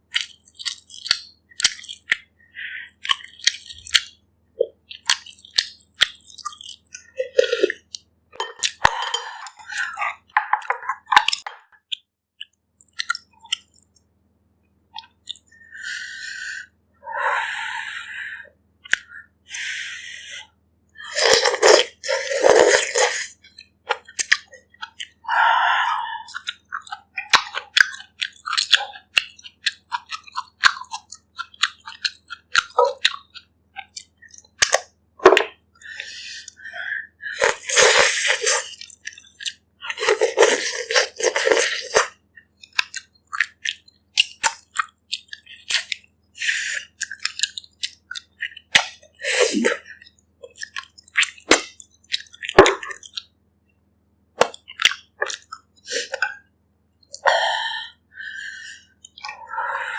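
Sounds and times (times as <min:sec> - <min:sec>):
person chewing food: 0:00.0 - 0:14.1, 0:14.9 - 0:16.3, 0:18.8 - 0:19.2, 0:21.0 - 0:53.4, 0:54.4 - 0:59.9.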